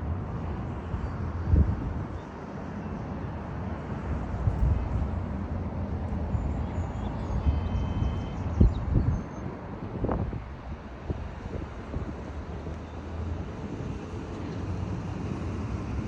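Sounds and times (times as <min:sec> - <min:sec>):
outdoor rumble in gusts: 0:00.0 - 0:16.0.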